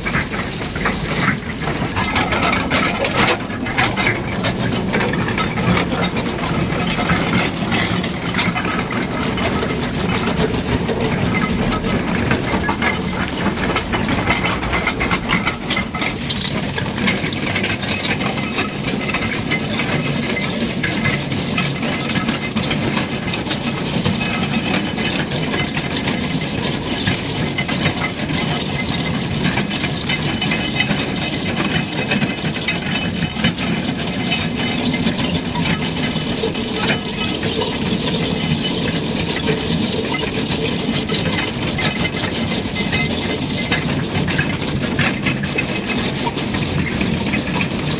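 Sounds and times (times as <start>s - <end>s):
continuous rattling and clicking: 0.0s - 47.9s
excavator diesel engine running: 0.0s - 47.9s.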